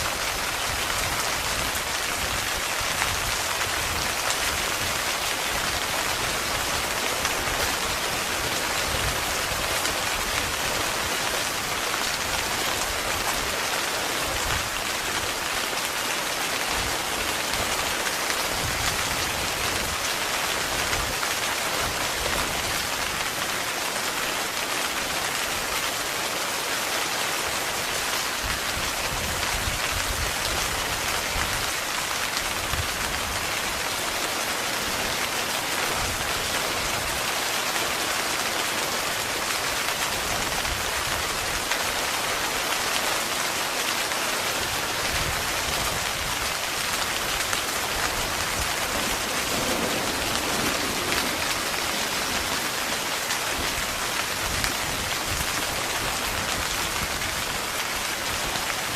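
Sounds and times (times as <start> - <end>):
heavy rain on a tent: 0.0 - 58.9.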